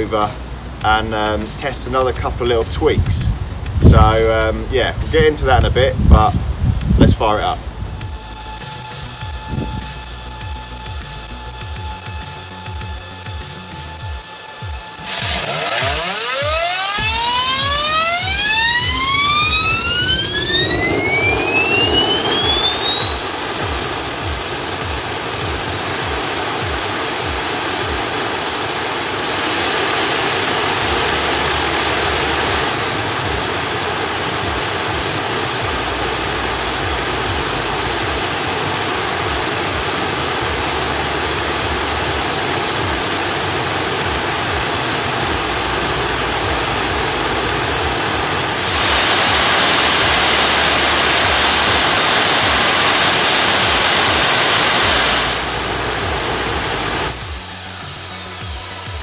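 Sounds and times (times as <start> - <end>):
gas turbine whine: 0.0 - 59.0
turbine exhaust rushing: 0.0 - 59.0.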